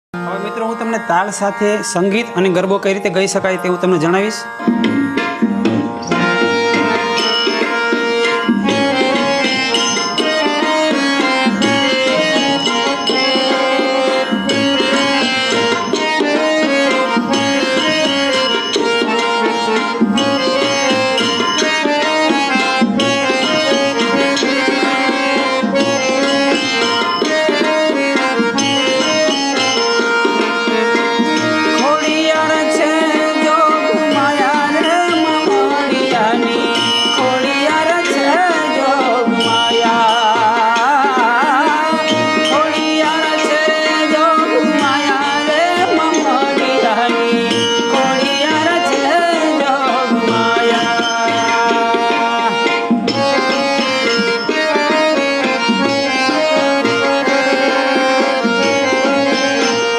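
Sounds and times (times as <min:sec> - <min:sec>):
sustained melodic instrument: 0:00.2 - 0:59.9
hand drums rhythm: 0:04.6 - 0:59.9.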